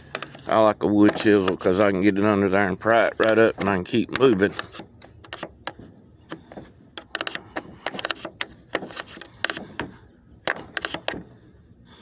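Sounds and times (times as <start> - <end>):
chisel prying plastic clicks: 0.1 - 1.8, 3.0 - 11.3.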